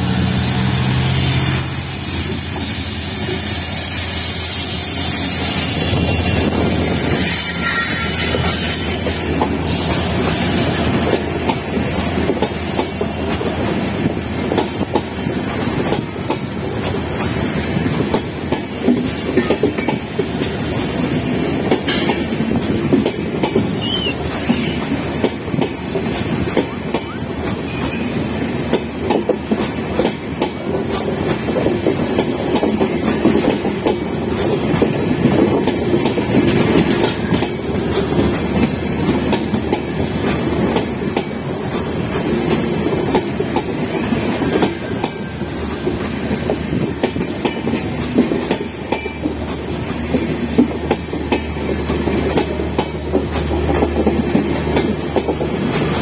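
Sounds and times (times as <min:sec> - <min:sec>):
train wheels rushing on rails: 0:00.0 - 0:56.0
clickety-clack over rail joints: 0:04.5 - 0:56.0.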